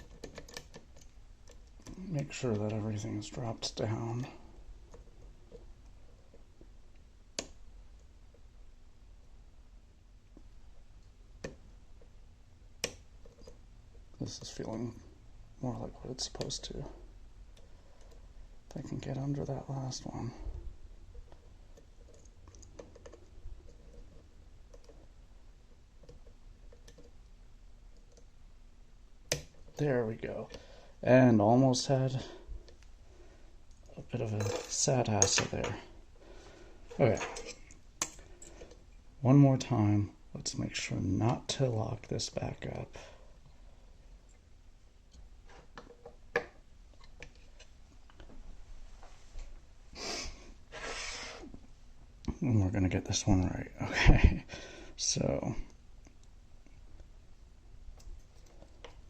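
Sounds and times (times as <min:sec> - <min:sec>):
steady low hum: 0:00.0 - 0:50.8.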